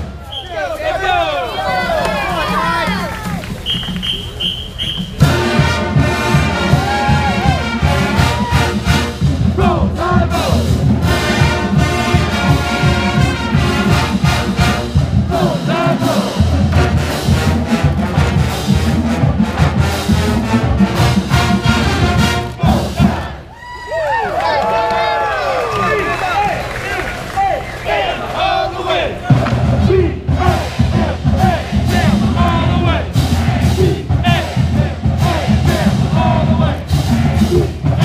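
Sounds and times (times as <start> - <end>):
marching band brass tune: 0.0 - 38.0
driving drum beat: 1.0 - 23.5, 29.1 - 38.0.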